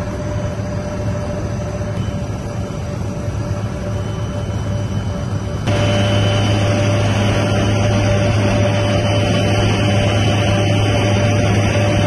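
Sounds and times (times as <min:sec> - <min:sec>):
constant whine: 0:00.0 - 0:12.0
helicopter engine and rotor drone: 0:00.0 - 0:12.0.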